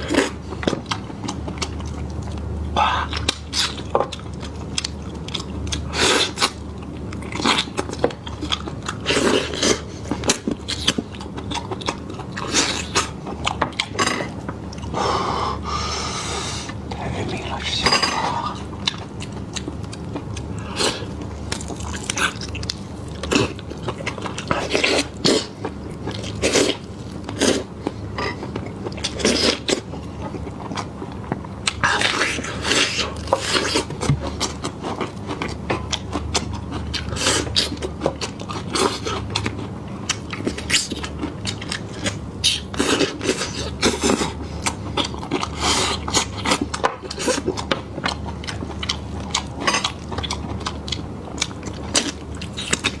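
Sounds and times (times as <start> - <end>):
biting and chewing meat: 0.0 - 16.1, 16.7 - 53.0.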